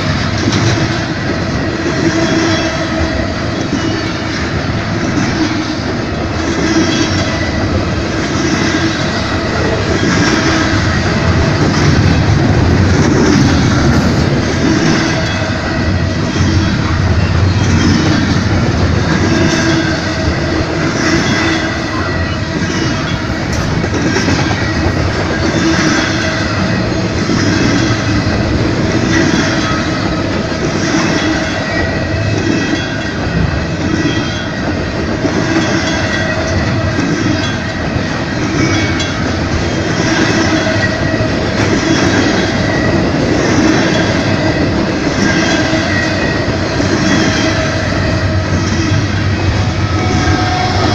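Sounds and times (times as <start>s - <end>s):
freight train rumbling past: 0.0s - 50.9s
wheels clacking over rails: 0.0s - 50.9s.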